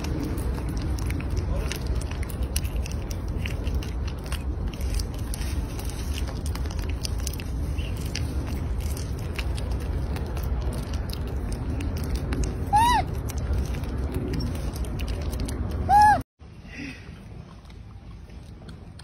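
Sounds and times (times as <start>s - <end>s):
monkeys chewing wet clicks: 0.0s - 16.2s, 17.1s - 19.0s
steady low rumble: 0.0s - 19.0s.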